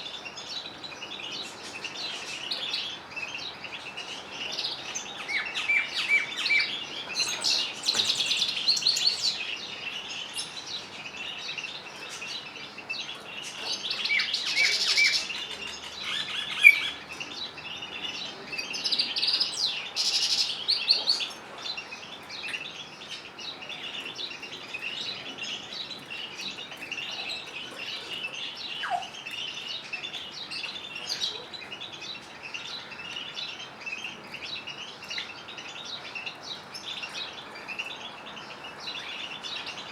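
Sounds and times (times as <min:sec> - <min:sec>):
birds twittering: 0:00.0 - 0:39.9
rapid bird song phrases: 0:00.0 - 0:39.9.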